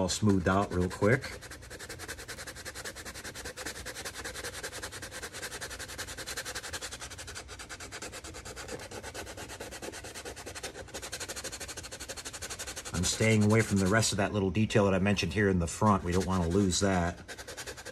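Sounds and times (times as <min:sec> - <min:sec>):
sandpaper rubbing on plastic: 0:00.0 - 0:17.9.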